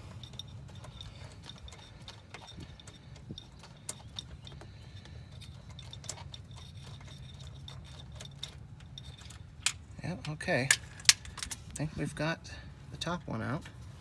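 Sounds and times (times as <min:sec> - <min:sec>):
ratchet clicks and scrapes: 0:00.0 - 0:11.8
steady low hum: 0:00.0 - 0:14.0.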